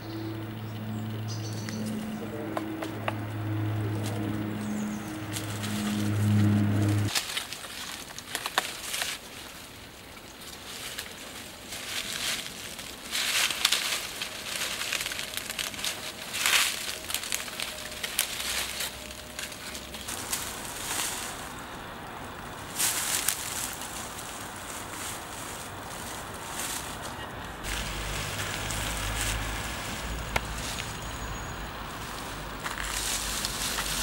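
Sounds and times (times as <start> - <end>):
footsteps in dry leaves: 0.0 - 34.0.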